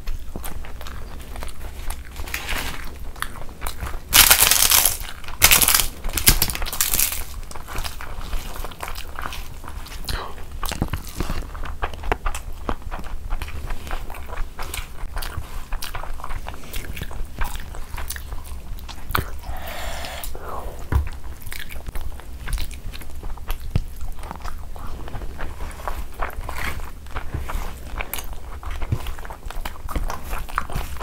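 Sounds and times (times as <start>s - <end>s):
chewing and wet mouth sounds: 0.0s - 31.0s
rice squishing by hand: 0.0s - 31.0s.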